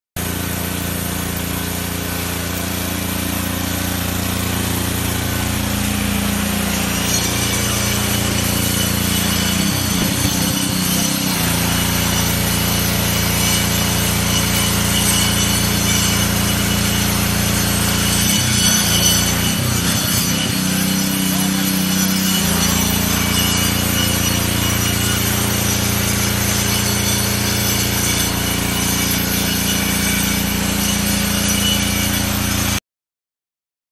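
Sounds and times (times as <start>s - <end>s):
cut-off saw grinding concrete: 0.2s - 32.8s
hiss of saw cut: 1.8s - 32.8s.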